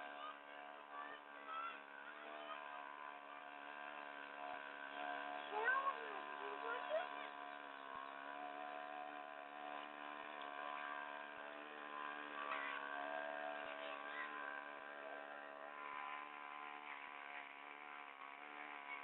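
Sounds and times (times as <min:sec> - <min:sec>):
small boat engine buzzing drone: 0:00.0 - 0:19.0.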